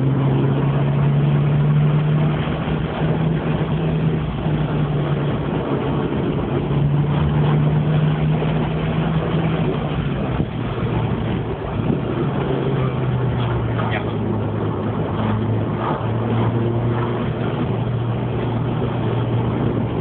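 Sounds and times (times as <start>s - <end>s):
car engine running: 0.0s - 20.0s
road noise: 0.0s - 20.0s.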